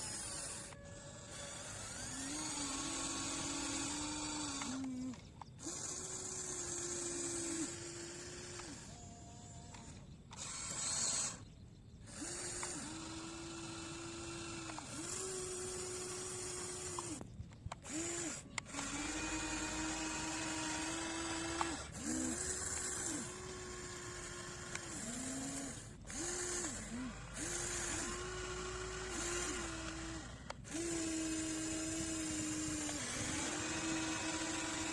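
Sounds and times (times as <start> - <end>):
electric motors whining: 0.0 - 34.9
sharp clicks: 1.9 - 9.0, 9.7 - 13.1, 14.4 - 34.9.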